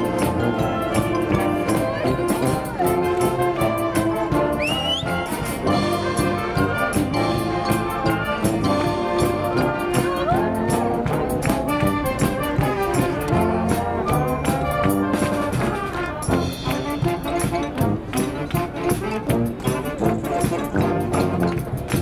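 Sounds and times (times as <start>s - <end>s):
percussion beat: 0.0s - 22.0s
wind band playing: 0.0s - 22.0s.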